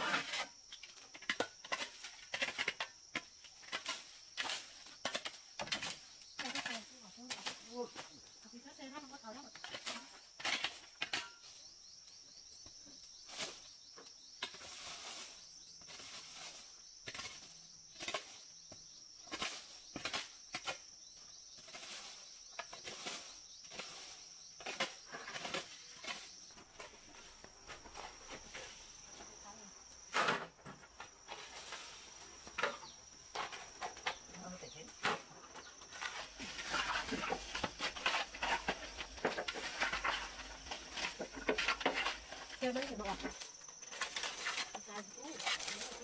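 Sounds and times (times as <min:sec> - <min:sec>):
rustles: 0:00.0 - 0:46.0.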